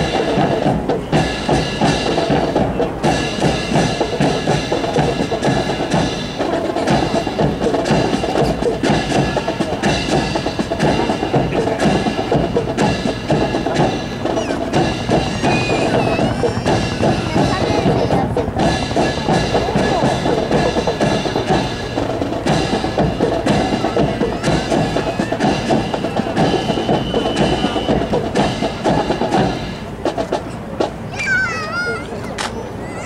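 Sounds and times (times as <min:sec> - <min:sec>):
music playing: 0:00.0 - 0:33.0.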